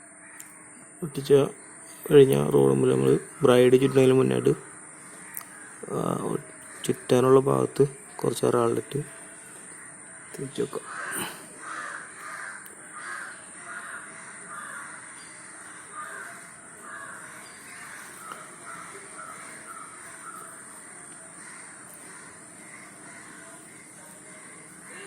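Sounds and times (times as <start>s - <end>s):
crows cawing: 0.0s - 25.0s
steady high-pitched whine: 0.0s - 25.0s.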